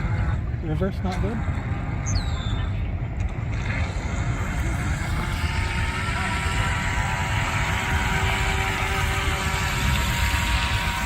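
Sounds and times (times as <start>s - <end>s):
electric motor whining: 0.0s - 2.3s, 3.4s - 11.0s
wind rumble on microphone: 0.0s - 11.0s.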